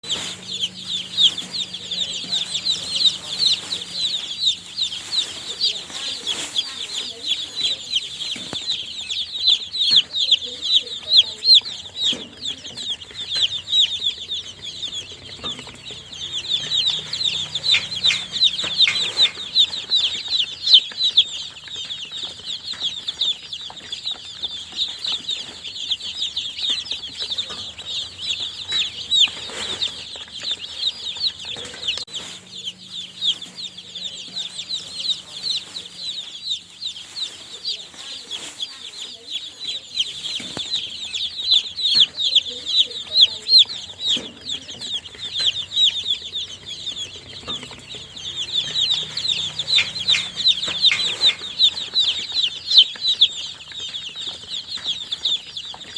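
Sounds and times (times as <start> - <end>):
baby chicks peeping: 0.0 - 55.9.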